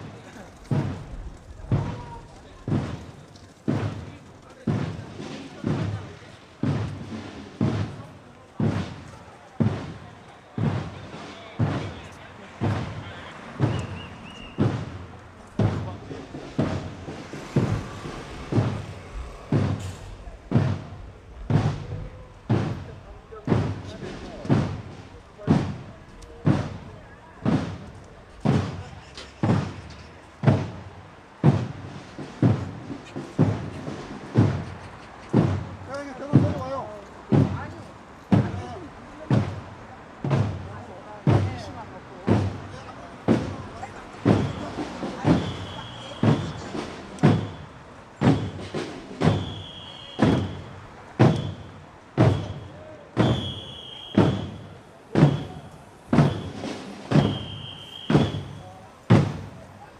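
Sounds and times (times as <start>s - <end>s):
drum beating march rhythm: 0.0s - 59.9s.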